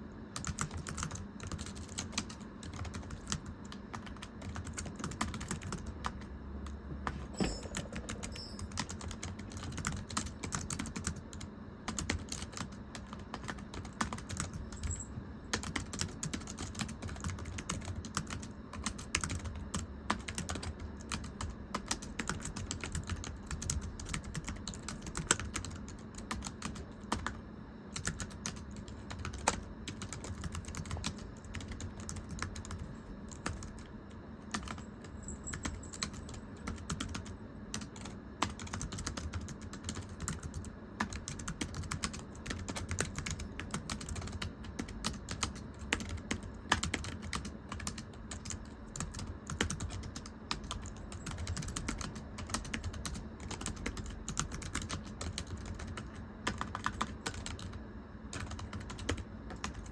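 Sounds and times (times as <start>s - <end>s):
typing on computer keyboard: 0.4s - 33.9s, 34.5s - 59.9s.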